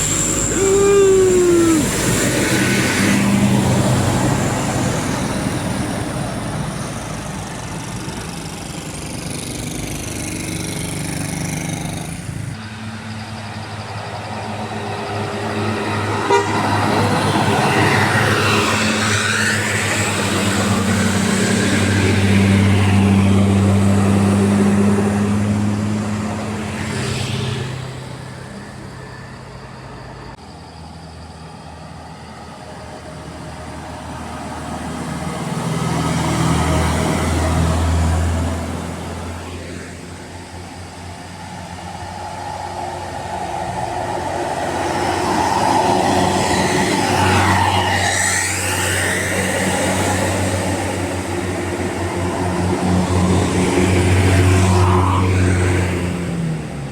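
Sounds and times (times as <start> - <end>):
bus diesel engines droning: 0.0 - 56.9.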